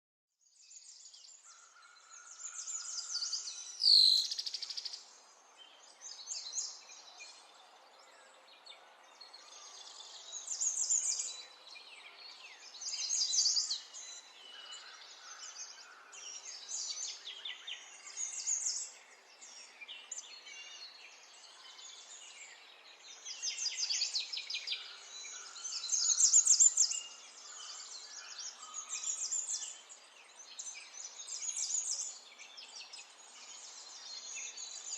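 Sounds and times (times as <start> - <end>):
songbirds trilling and chirping: 0.4 - 34.9.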